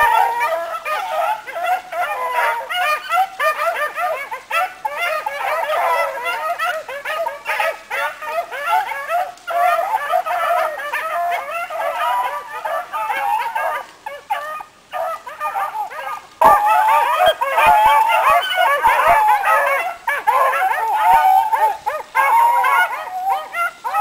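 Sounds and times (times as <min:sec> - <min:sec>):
hounds baying: 0:00.0 - 0:24.0.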